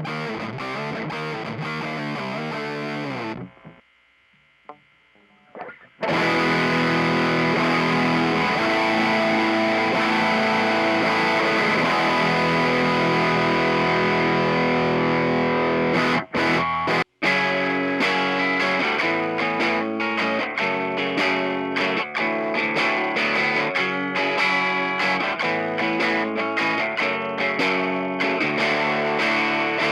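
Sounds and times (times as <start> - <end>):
distorted electric guitar: 0.0 - 29.9.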